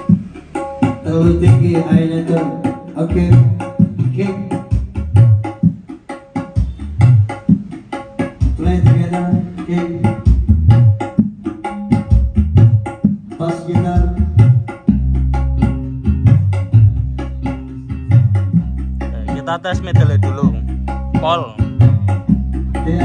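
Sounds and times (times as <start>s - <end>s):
drum-heavy music over loudspeakers: 0.0s - 23.0s.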